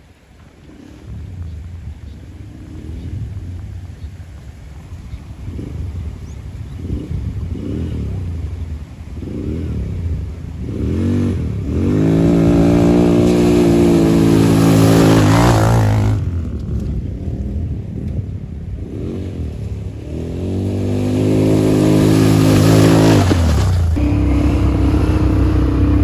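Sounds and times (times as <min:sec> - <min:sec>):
atv engine revving: 0:00.3 - 0:26.0.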